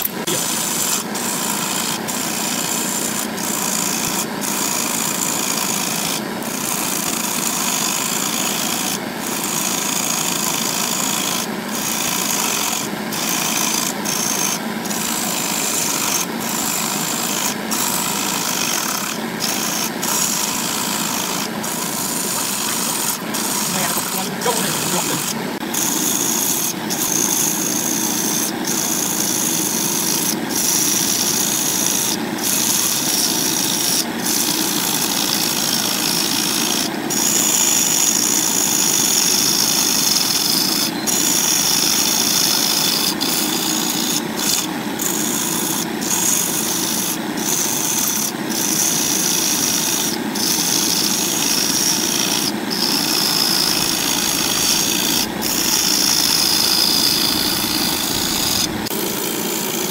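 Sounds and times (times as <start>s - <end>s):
gouge scraping spinning wood: 0.0s - 59.9s
wood lathe motor hum: 0.0s - 59.9s.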